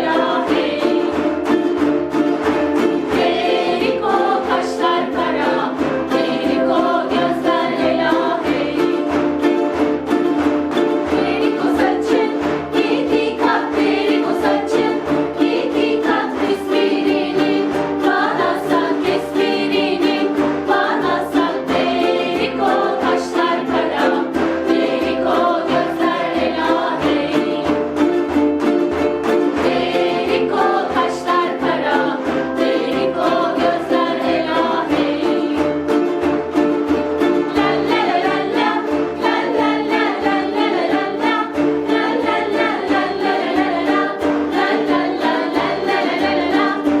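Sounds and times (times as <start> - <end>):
group singing children's song: 0.0 - 47.0
ukuleles strumming: 0.0 - 47.0.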